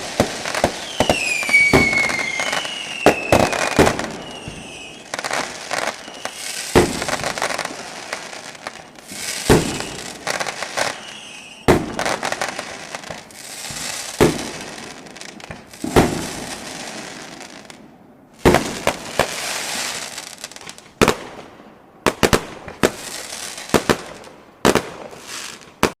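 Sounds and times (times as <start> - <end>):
fireworks fizzing crackle: 0.0 - 21.5
fireworks banging: 0.0 - 26.0.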